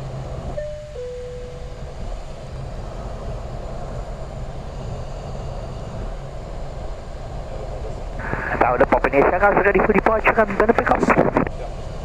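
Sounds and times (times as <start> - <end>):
aircraft engines rumbling: 1.7 - 11.8.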